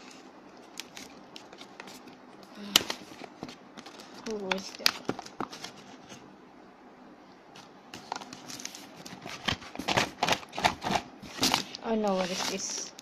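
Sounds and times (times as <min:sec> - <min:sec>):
gift wrapping rustling: 0:00.0 - 0:06.3, 0:07.6 - 0:12.9.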